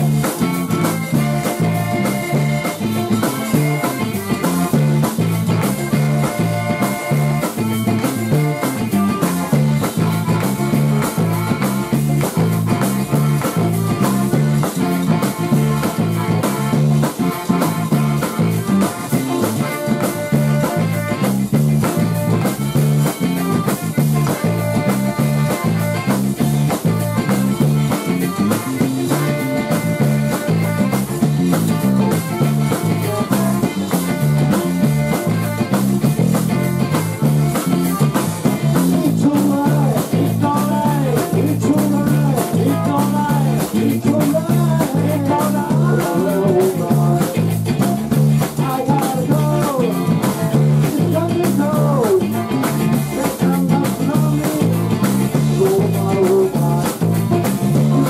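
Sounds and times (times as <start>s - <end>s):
accordion lead: 0.0s - 58.0s
electric guitars and bass: 0.0s - 58.0s
rubboard beat: 0.0s - 58.0s.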